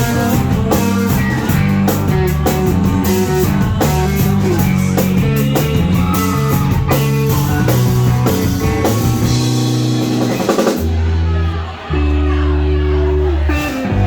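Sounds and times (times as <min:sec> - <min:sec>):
drum kit: 0:00.0 - 0:11.9
bass guitar: 0:00.0 - 0:14.0
electric guitars: 0:00.0 - 0:14.0.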